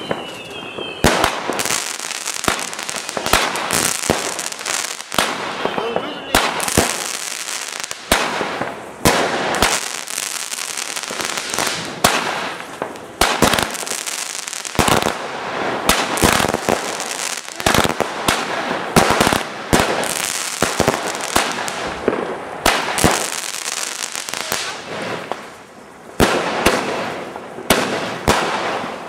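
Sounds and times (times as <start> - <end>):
crackling hiss: 0.0 - 29.0
fireworks bangs and cracks: 0.0 - 29.0.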